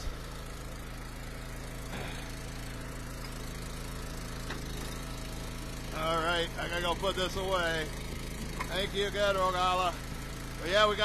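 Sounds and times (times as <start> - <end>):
wood splitter engine droning: 0.0 - 11.0.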